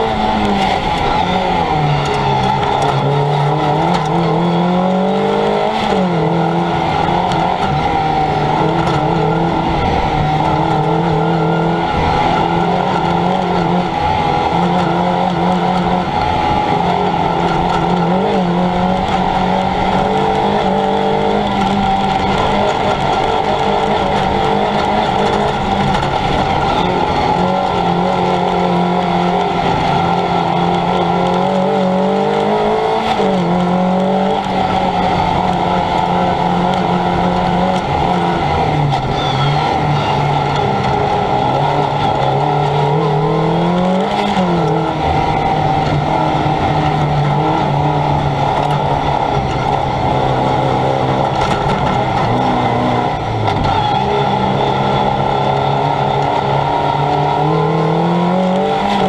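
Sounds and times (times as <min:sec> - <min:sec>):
car engine running hard: 0:00.0 - 0:59.0
road and wind noise: 0:00.0 - 0:59.0.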